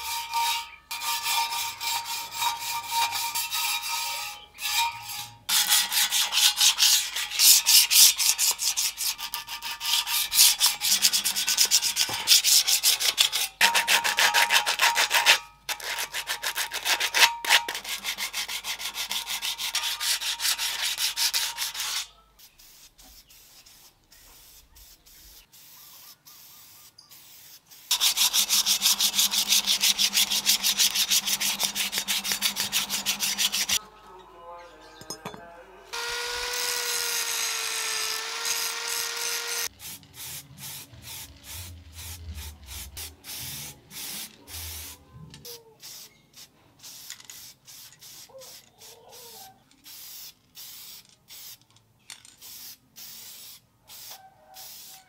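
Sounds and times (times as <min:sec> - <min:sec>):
sandpaper rubbing on metal: 0:00.0 - 0:33.8, 0:38.3 - 0:51.1.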